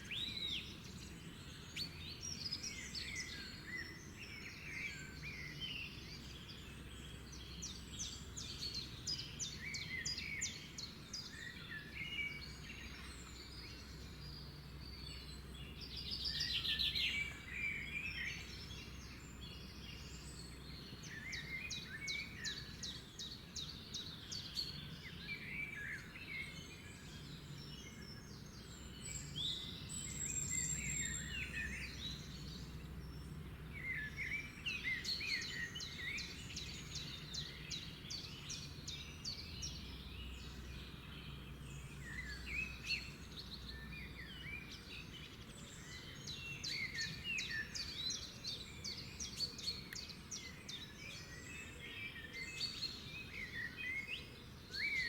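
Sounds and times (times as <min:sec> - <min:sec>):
birds chirping chorus: 0:00.0 - 0:55.0.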